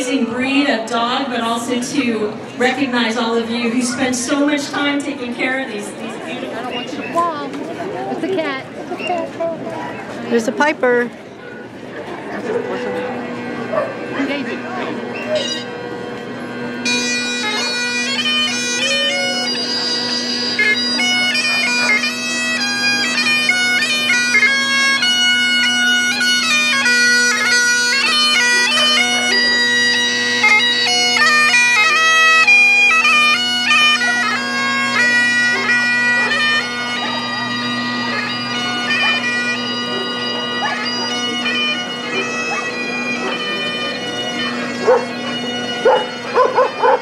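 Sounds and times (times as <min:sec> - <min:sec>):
bagpipes playing: 0:00.0 - 0:47.0.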